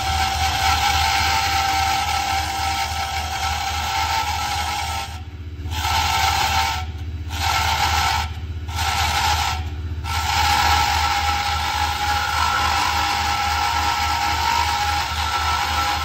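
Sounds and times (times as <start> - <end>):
lathe motor hum: 0.0 - 16.0
turning tool scraping wood: 0.0 - 16.0.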